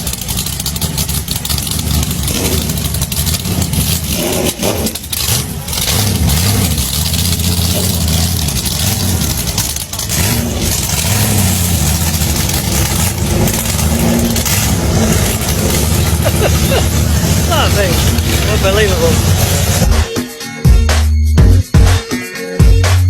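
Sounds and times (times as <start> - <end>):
motorcycle engine revving: 0.0 - 20.1.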